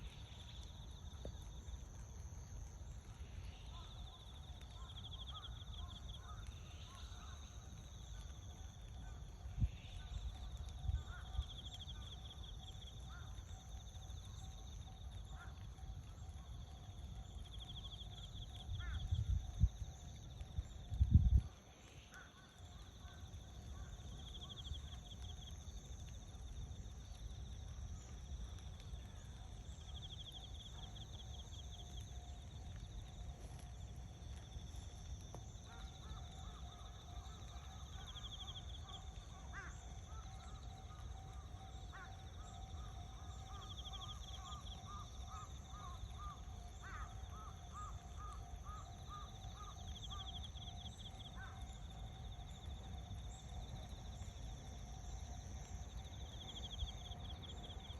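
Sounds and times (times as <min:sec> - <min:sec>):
insects trilling: 0:00.0 - 0:57.9.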